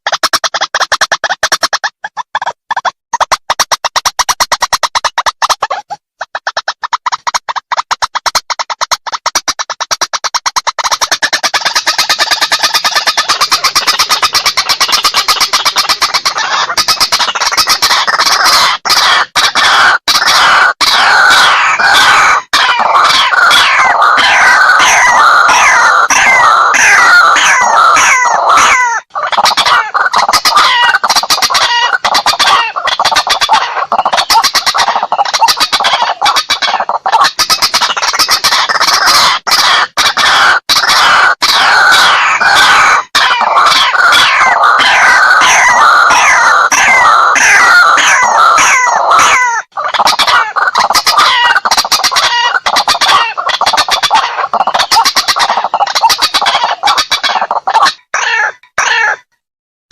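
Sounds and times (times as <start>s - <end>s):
waterhen calls recording: 0.0s - 59.4s.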